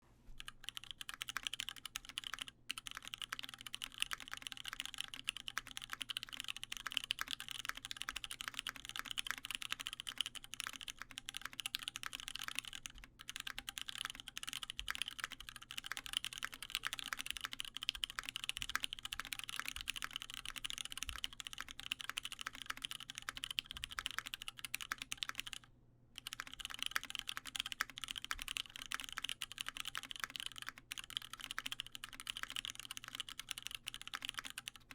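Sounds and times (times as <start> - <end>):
fast mechanical keyboard typing: 0.4 - 34.9.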